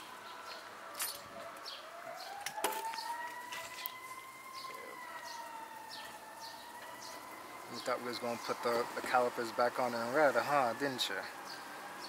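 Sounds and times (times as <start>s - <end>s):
siren rising in pitch: 1.8s - 12.0s.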